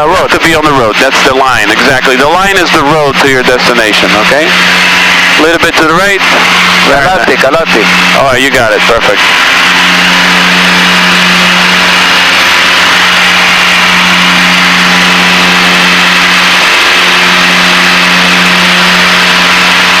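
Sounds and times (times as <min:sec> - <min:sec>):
aircraft engines and propellers droning: 0:00.0 - 0:20.0.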